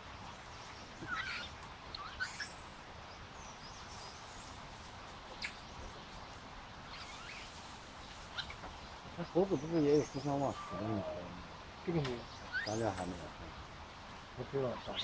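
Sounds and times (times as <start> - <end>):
animals chirping: 0.0 - 15.0
outdoor background hiss: 0.0 - 15.0.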